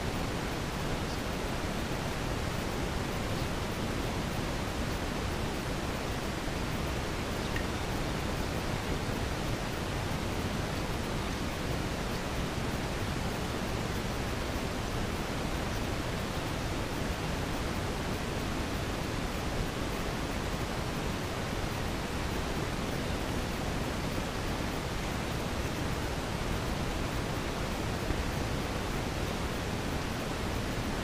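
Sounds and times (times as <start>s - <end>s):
steady hiss of noise: 0.0s - 31.0s.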